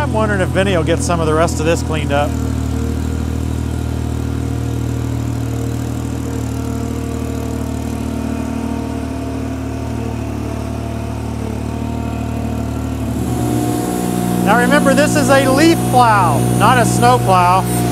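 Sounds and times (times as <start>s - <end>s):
tractor engine running: 0.0s - 17.9s.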